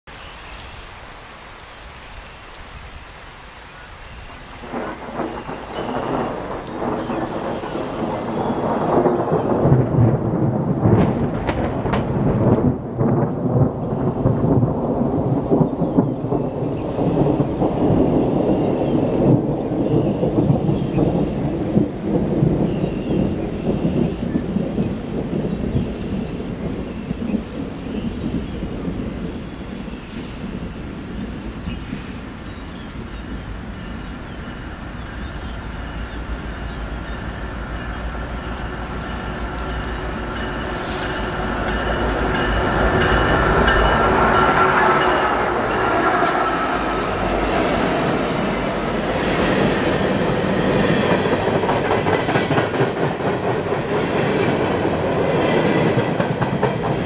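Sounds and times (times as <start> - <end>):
thunder clap and rumble: 4.2 - 57.0.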